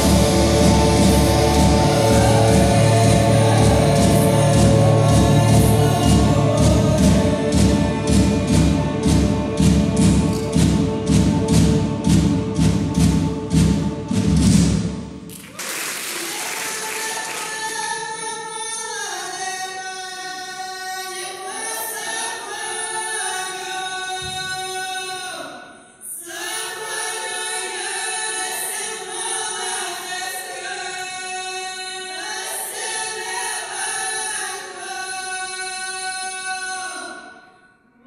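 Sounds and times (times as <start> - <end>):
choir singing a cappella: 0.0 - 15.2, 17.6 - 38.0.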